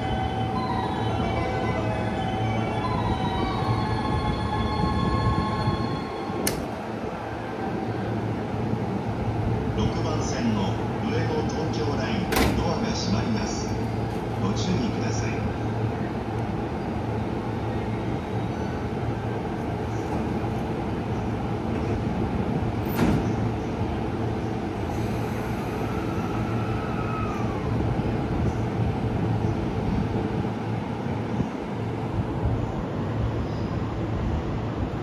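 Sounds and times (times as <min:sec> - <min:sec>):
train rumbling on tracks: 0:00.0 - 0:35.0.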